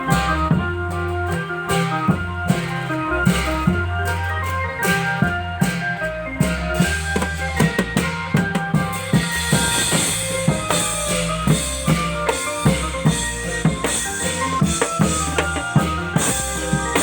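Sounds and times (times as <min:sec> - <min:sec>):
drums beating steady rhythm: 0:00.0 - 0:17.0
sustained keyboard-like notes: 0:00.0 - 0:17.0.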